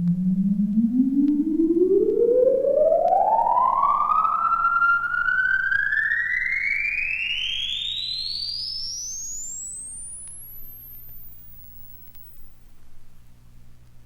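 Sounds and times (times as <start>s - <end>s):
electronic tone gliding upward: 0.0s - 12.6s
faint low hum: 0.0s - 14.0s.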